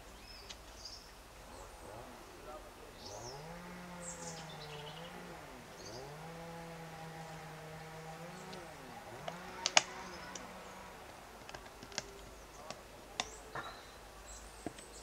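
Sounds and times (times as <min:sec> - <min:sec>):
low droning tone: 0:01.2 - 0:14.5.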